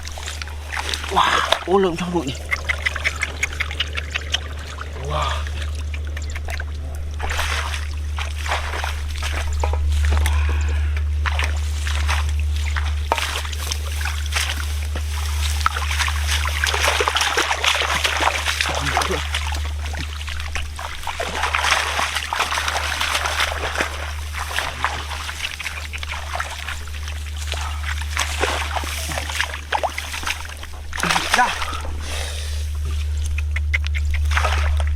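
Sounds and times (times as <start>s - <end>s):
muddy water splashing: 0.0s - 34.9s
steady low hum: 0.0s - 34.9s.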